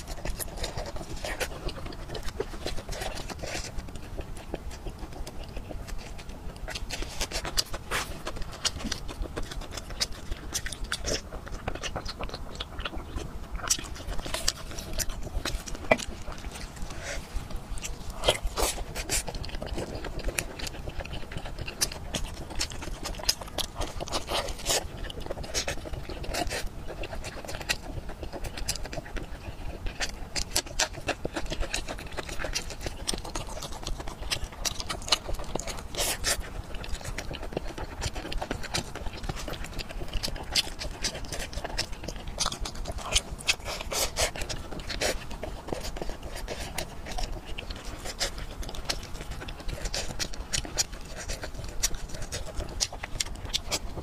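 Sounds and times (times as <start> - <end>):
wet chewing and lip-smacking: 0.0 - 54.0.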